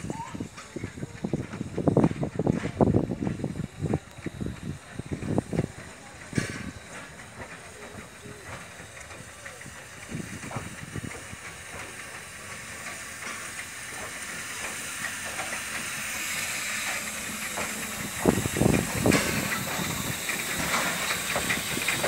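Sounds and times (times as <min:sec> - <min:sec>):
steam engine rolling: 0:00.0 - 0:22.0
steam hissing: 0:00.0 - 0:22.0.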